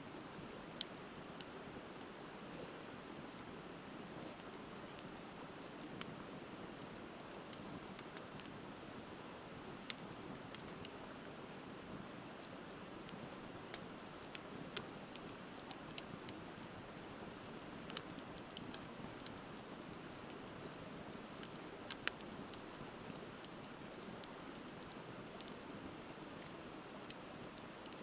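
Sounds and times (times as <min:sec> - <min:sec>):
wood fire crackling and popping: 0:00.4 - 0:02.2, 0:03.3 - 0:28.0.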